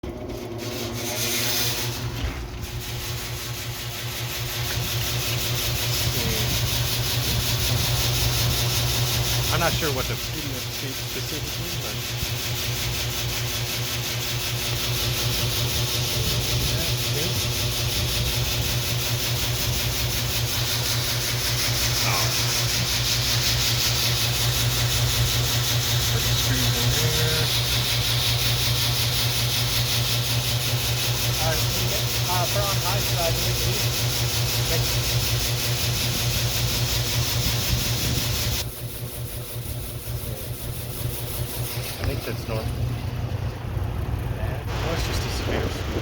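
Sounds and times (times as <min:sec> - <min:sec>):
motor pulsing hum: 0:00.0 - 0:46.0
rasping rubbing noise: 0:00.5 - 0:42.8.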